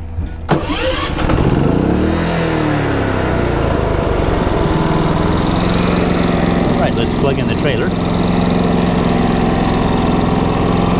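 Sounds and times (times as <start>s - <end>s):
generator engine running: 0.5s - 10.9s.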